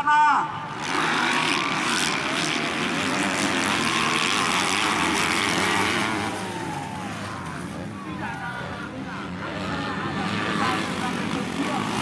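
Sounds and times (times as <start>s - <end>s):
racing motorcycles revving: 0.0s - 12.0s.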